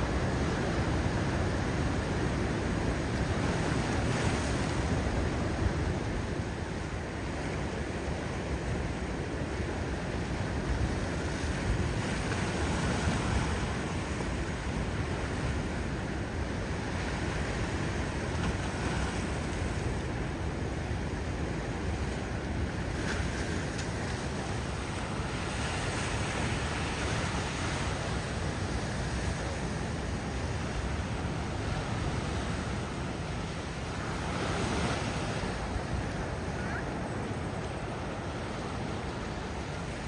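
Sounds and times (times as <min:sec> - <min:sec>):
waves breaking and washing in: 0:00.0 - 0:40.0.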